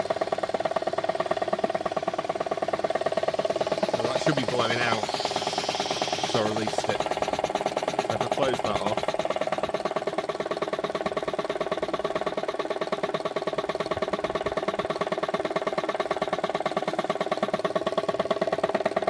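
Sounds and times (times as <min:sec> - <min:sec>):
air compressor running: 0:00.0 - 0:19.0
fast even pump pulsing: 0:00.0 - 0:19.0.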